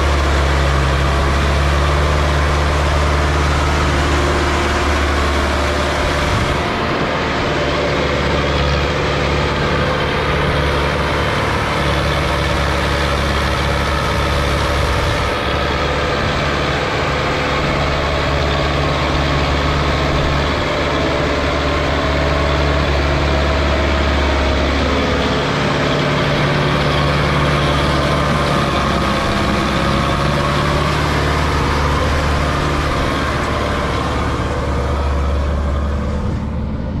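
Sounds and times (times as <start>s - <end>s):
tractor diesel engine droning: 0.0s - 37.0s.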